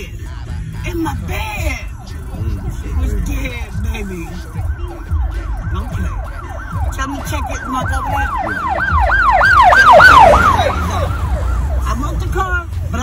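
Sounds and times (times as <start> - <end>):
emergency siren yelping: 1.8 - 12.8.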